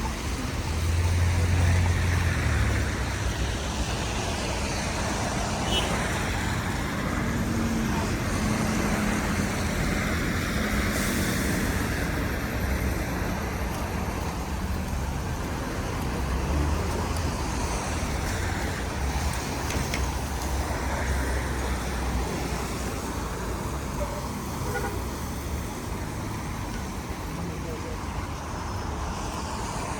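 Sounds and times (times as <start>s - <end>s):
cars and trucks passing: 0.0s - 29.9s
road noise: 0.0s - 29.9s.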